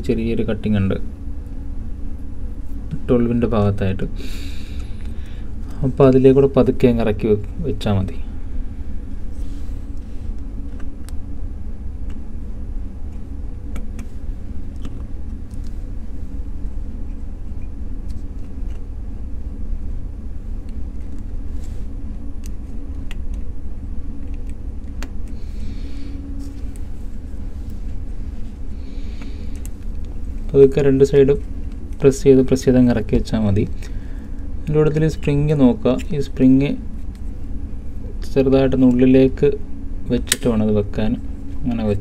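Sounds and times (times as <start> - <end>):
faint hum: 0.0 - 42.0
low rumble: 1.0 - 42.0.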